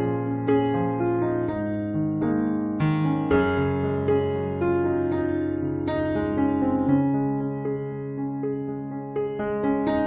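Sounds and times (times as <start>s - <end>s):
slow piano-like keyboard melody: 0.0s - 10.0s.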